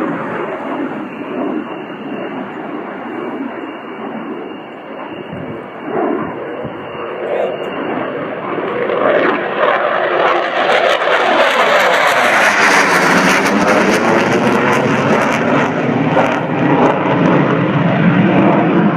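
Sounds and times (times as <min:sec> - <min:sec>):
fighter jet flying past: 0:00.0 - 0:18.9.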